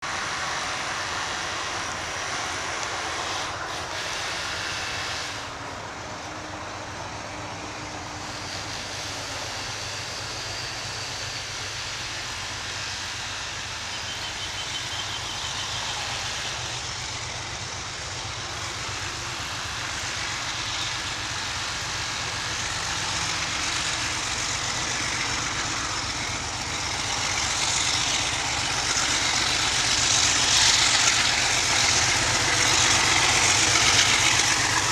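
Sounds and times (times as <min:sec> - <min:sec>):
locomotive engine drone: 0:00.0 - 0:34.9.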